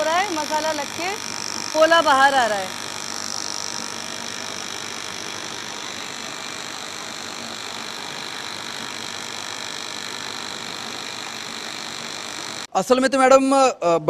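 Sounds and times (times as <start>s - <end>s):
factory machinery running: 0.0s - 12.7s.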